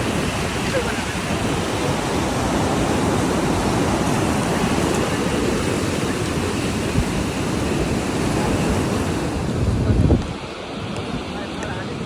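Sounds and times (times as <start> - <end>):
ocean surf: 0.0 - 12.0
wind on microphone: 0.0 - 12.0.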